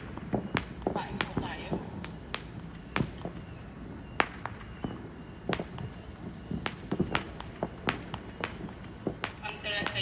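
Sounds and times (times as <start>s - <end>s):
firecrackers cracking and popping: 0.0s - 10.0s.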